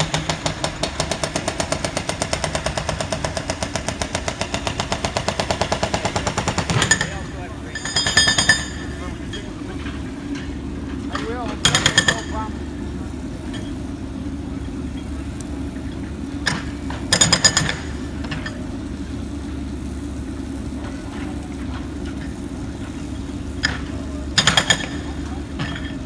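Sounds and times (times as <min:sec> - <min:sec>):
jackhammer hammering: 0:00.0 - 0:26.0
low engine rumble: 0:00.0 - 0:26.0.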